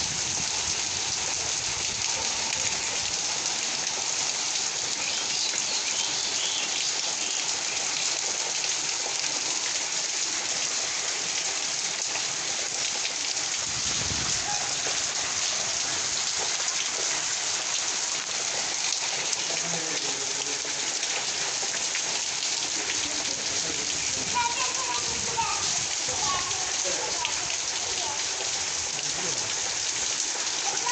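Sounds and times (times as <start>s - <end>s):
heavy rain pattering: 0.0s - 30.9s.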